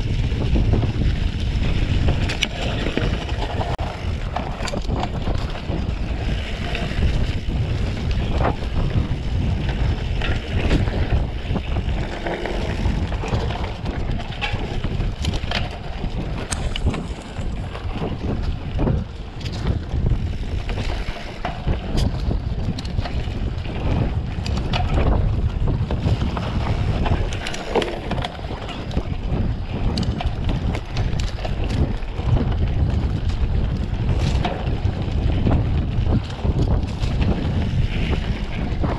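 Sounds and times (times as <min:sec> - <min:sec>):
bike knocks and rattles: 0:00.0 - 0:38.9
tyres rumbling on dirt: 0:00.0 - 0:38.9
wind buffeting microphone: 0:00.0 - 0:38.9.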